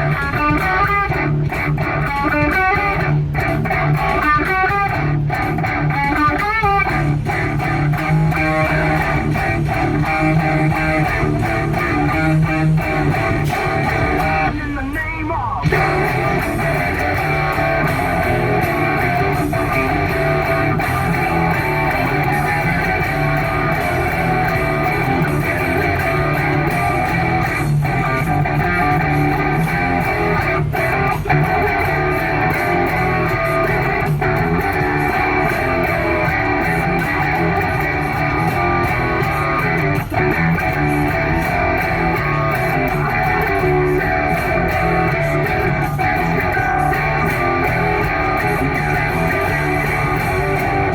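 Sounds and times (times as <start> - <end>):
electric guitar playing: 0.0 - 50.9.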